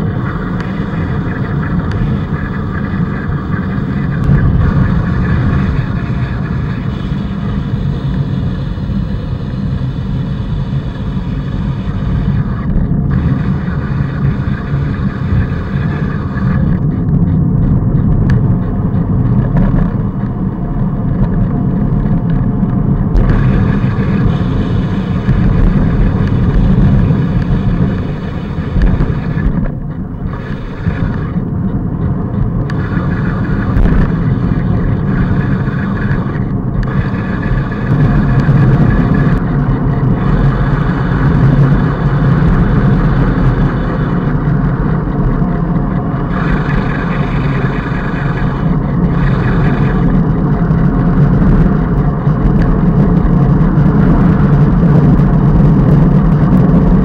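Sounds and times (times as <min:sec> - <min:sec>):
rumble of tyres on asphalt: 0:00.0 - 0:57.0
wind buffeting microphone: 0:00.0 - 0:57.0.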